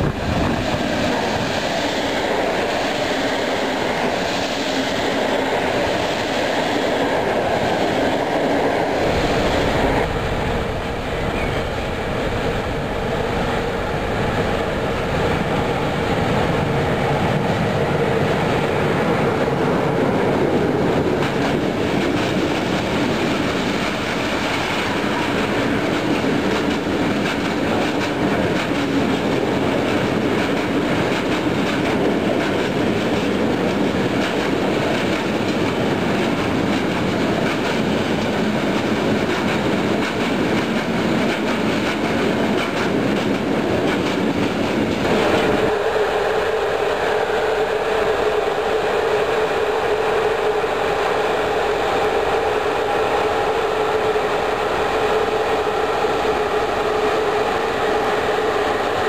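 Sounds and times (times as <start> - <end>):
electric locomotive passing: 0.0 - 59.0
freight train rolling past: 0.0 - 59.0.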